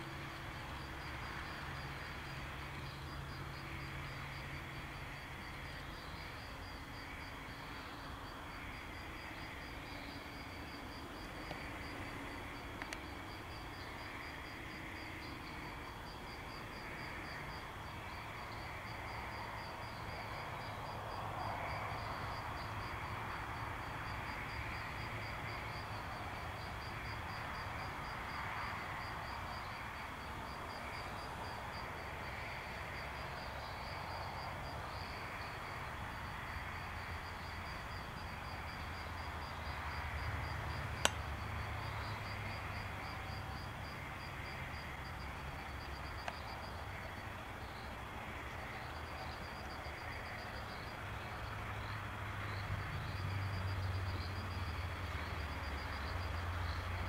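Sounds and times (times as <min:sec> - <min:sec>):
crickets chirping: 0:00.0 - 0:57.0
insect hiss: 0:00.0 - 0:57.0.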